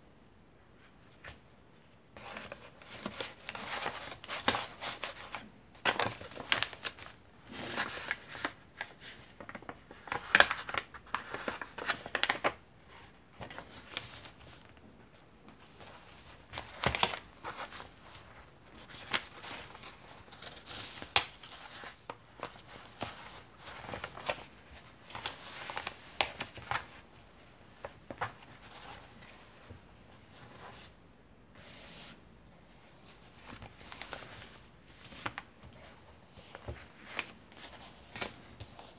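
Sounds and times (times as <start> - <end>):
paper pages rustling and crinkling: 2.1 - 31.0, 31.6 - 38.9.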